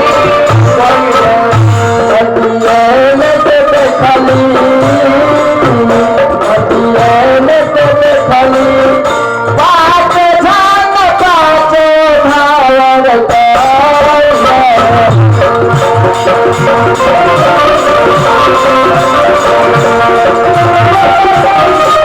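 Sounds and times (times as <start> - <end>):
hand drum percussion: 0.0 - 12.6, 13.3 - 22.0
sustained melodic instruments: 0.0 - 13.0, 13.8 - 22.0.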